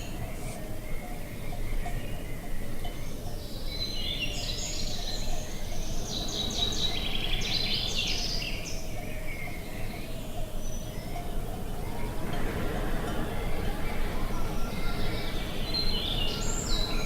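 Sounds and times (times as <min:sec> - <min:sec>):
songbird chirps and trills: 0:00.0 - 0:17.0.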